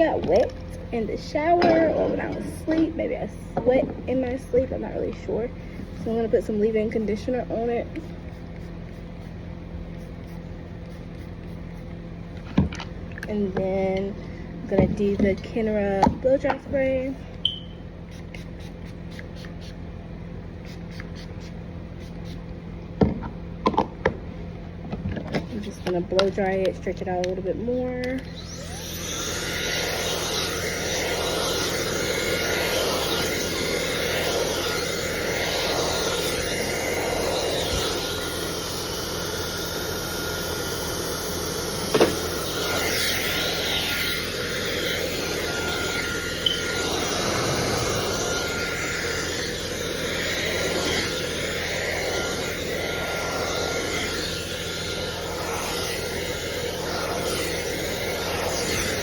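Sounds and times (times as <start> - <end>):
blow dryer running: 0.0 - 17.5, 23.0 - 59.0.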